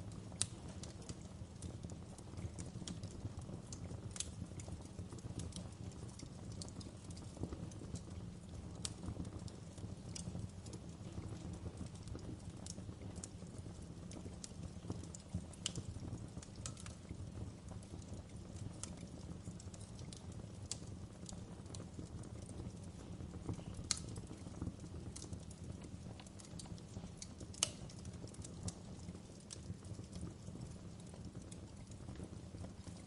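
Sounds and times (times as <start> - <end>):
fire pops and snaps: 0.0 - 33.0
wood fire crackling: 0.0 - 33.0.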